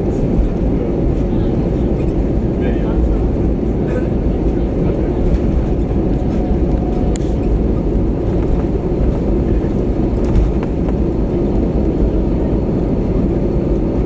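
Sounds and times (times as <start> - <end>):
wheels and engines rumbling: 0.0 - 14.0.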